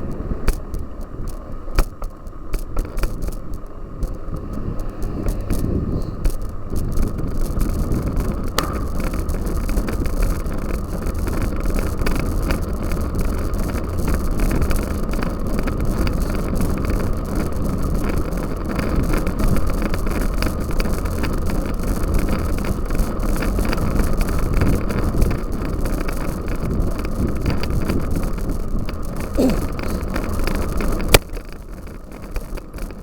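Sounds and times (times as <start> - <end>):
bike rattling over rough ground: 0.0 - 33.0
wind rumbling on microphone: 0.0 - 33.0
small clicks and knocks: 0.1 - 33.0.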